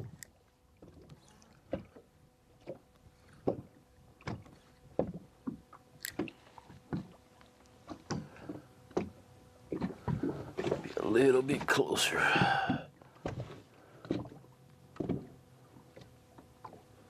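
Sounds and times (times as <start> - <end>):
faint steady hum: 0.0 - 17.0
waves lapping against boat hull: 0.0 - 17.0.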